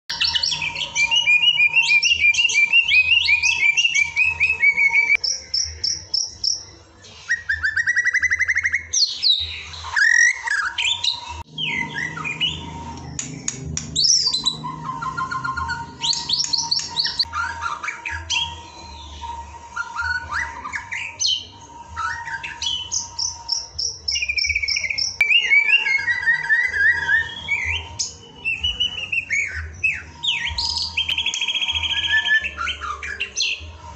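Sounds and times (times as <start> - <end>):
bird singing trills and whistles: 0.1 - 33.9.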